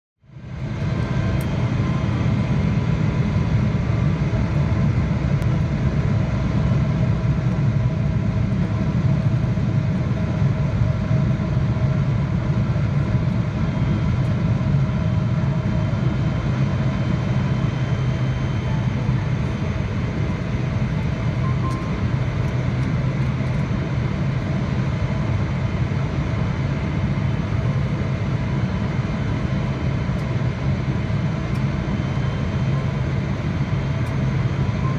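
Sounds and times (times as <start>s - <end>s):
airplane cabin rumble: 0.4s - 34.9s.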